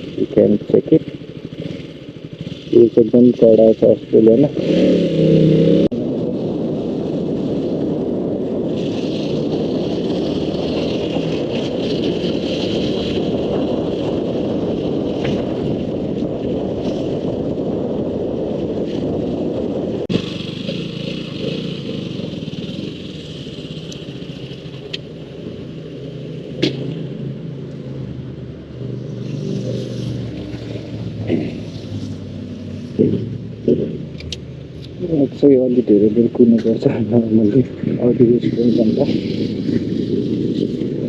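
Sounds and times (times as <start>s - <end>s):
motorcycle engine running: 0.0s - 41.0s
wind rushing over microphone: 0.0s - 41.0s.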